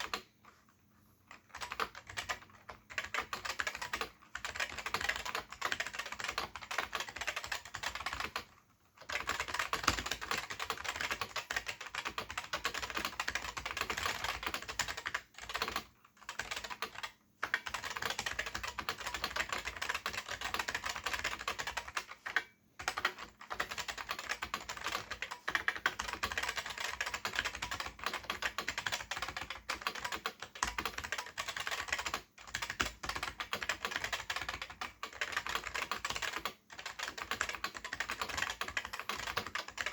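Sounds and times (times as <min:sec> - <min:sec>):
fast keyboard typing clicks: 0:00.0 - 0:00.3, 0:01.3 - 0:39.9.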